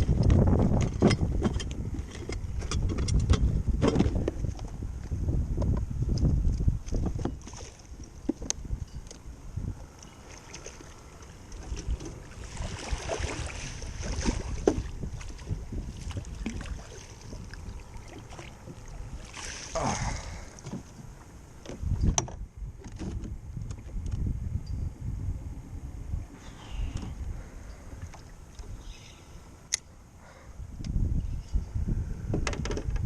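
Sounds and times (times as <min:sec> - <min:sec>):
water moving around boat: 0:00.0 - 0:24.5, 0:25.2 - 0:30.6
wind rumbling on microphone: 0:00.0 - 0:33.0.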